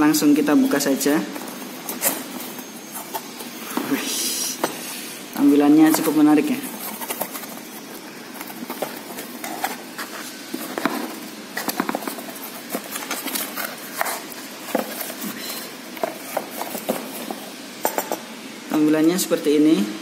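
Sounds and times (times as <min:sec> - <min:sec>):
cardboard rustling and scraping: 0:00.8 - 0:17.5.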